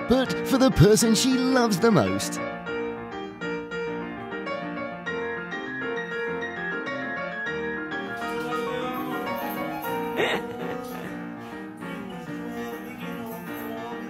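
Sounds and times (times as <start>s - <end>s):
background piano music: 0.0s - 14.0s.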